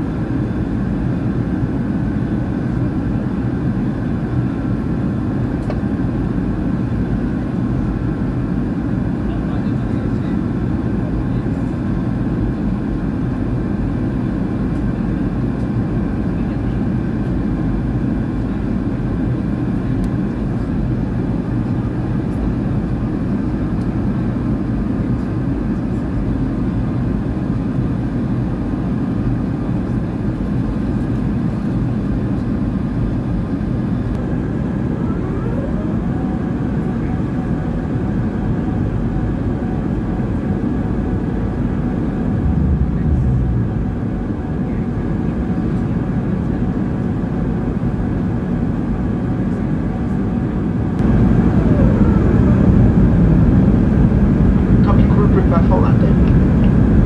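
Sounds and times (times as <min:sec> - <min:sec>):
airliner cabin engine noise: 0:00.0 - 0:57.0.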